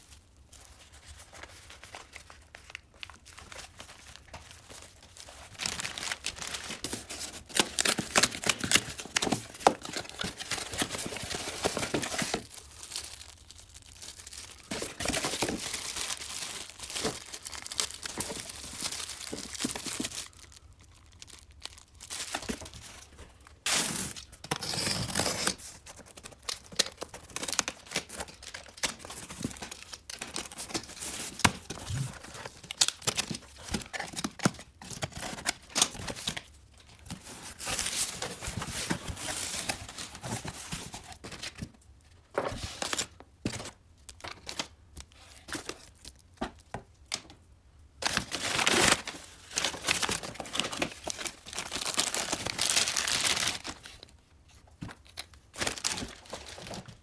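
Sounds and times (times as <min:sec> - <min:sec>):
packing paper rustling: 0:00.0 - 0:41.7, 0:42.3 - 0:46.6, 0:48.0 - 0:57.0.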